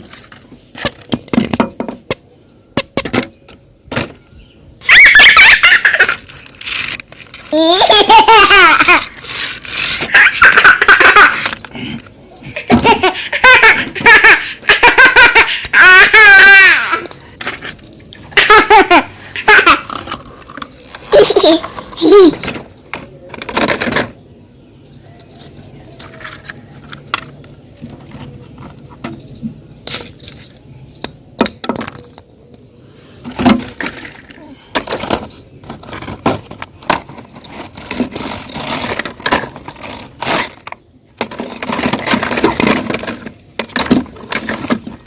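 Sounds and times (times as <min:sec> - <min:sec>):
plastic toy vehicles knocking: 0:00.0 - 0:04.3, 0:05.6 - 0:15.8, 0:18.4 - 0:24.2, 0:26.0 - 0:32.3, 0:33.2 - 0:45.0.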